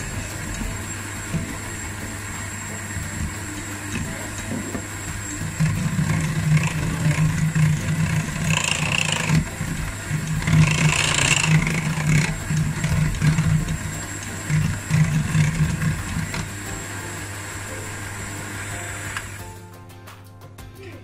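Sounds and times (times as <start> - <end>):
electric hand mixer whirring: 0.0 - 19.5.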